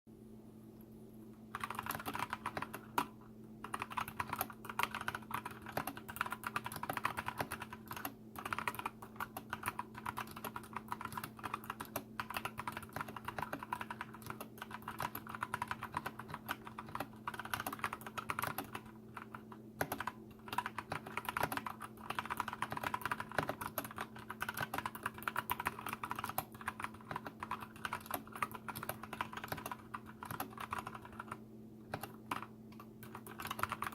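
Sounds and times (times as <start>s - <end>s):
steady low hum: 0.1s - 33.9s
fast mechanical keyboard typing: 1.5s - 33.9s.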